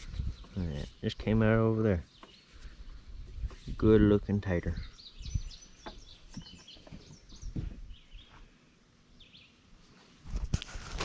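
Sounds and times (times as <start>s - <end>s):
small birds chirping: 0.0s - 9.7s.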